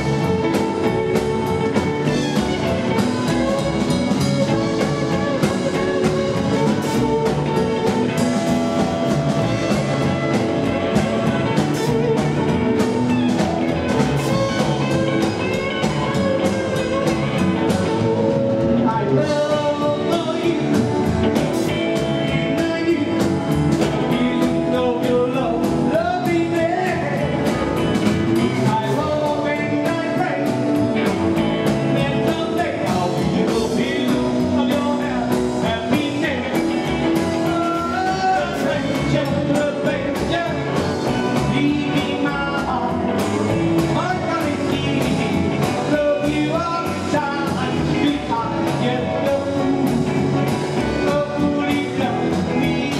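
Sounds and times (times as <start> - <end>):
man singing: 0.0 - 52.9
rockabilly band playing: 0.0 - 52.9.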